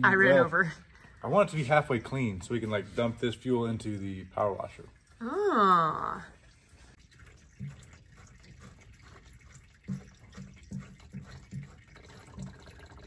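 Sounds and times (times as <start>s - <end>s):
irregular drips and splashes: 0.0s - 13.0s
fuel trickling into can: 0.2s - 5.3s, 6.1s - 13.0s.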